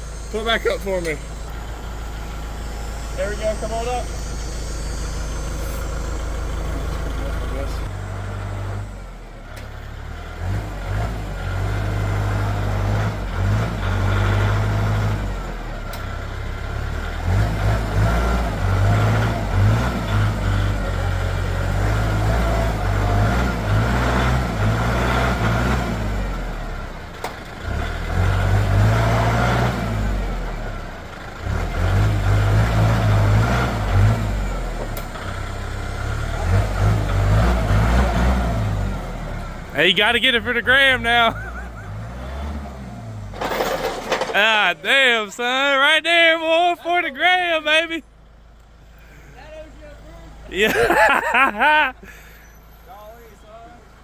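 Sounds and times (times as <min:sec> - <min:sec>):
diesel tractor engine revving: 0:00.0 - 0:54.0.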